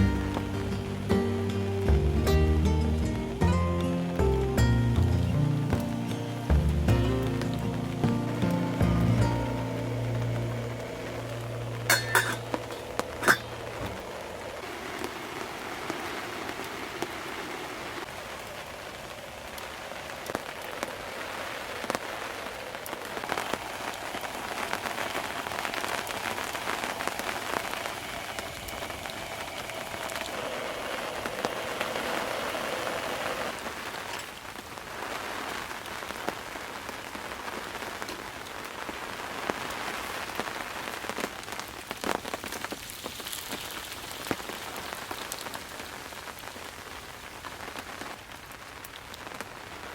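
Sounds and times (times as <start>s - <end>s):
rain falling: 0.0s - 49.9s
raindrops striking: 0.0s - 49.9s.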